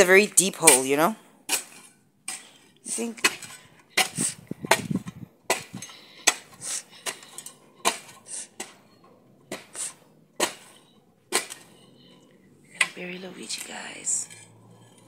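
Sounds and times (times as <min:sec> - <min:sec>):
metal spade scraping into soil: 0:00.0 - 0:15.0.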